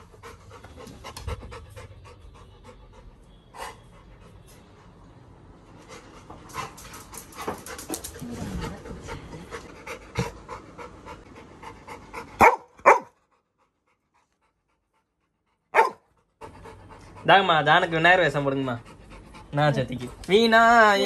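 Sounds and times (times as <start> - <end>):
dog panting: 0.0 - 5.0, 5.6 - 20.9.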